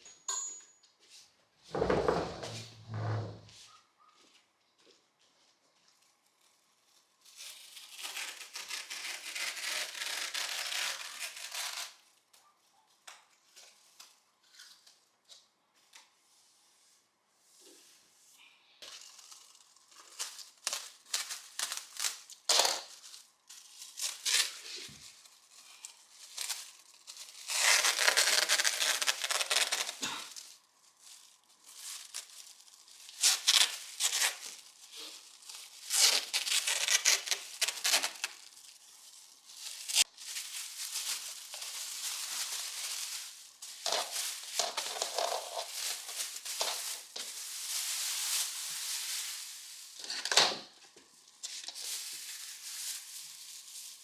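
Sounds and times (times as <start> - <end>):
rustling and crinkling handling: 1.0 - 54.0.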